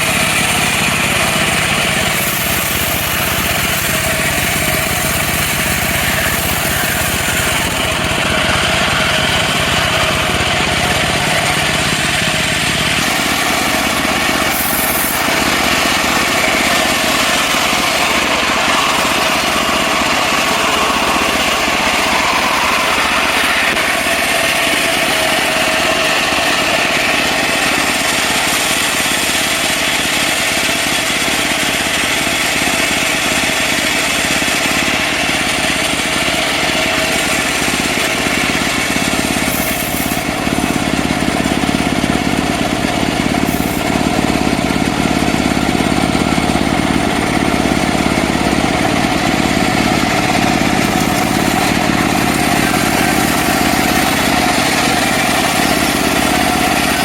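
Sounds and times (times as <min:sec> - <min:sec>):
bandsaw mill engine running: 0:00.0 - 0:57.0.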